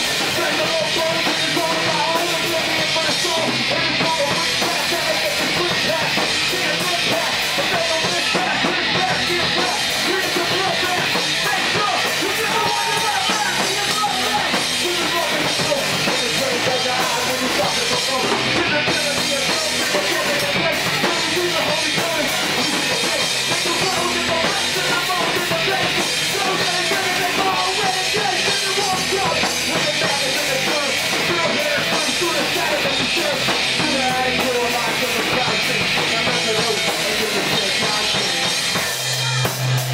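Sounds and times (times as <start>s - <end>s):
person singing into microphone: 0.0s - 39.5s
drum kit with cymbals: 0.0s - 39.9s
electric guitar: 0.0s - 39.9s.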